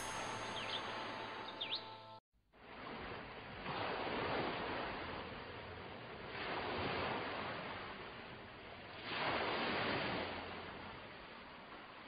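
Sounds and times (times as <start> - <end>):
ocean waves washing: 0.0 - 2.0, 2.6 - 12.0.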